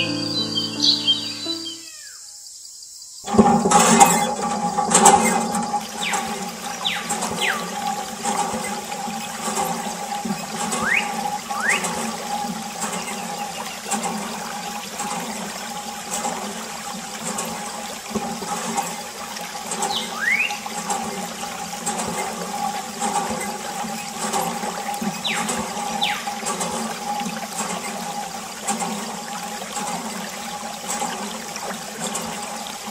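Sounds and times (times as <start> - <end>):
water splashing from tube: 3.3 - 32.9.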